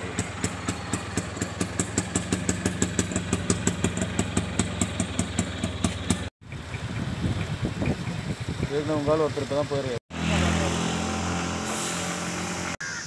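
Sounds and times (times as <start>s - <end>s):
auto-rickshaw engine idling: 0.0s - 11.5s.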